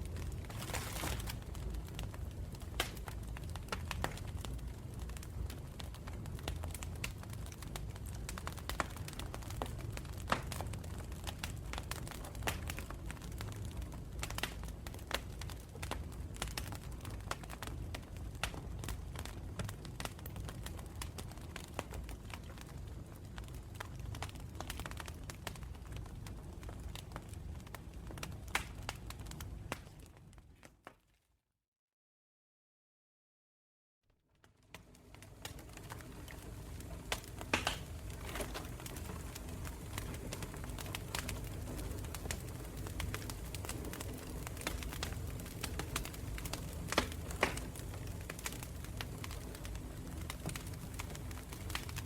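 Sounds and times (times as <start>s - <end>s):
campfire crackling and popping: 0.0s - 31.0s, 34.4s - 52.0s.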